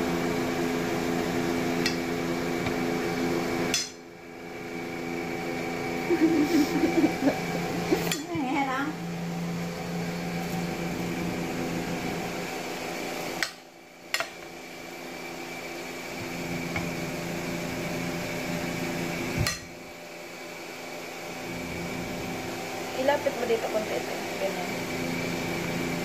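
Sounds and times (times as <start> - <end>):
appliance motor hum: 0.0 - 26.0.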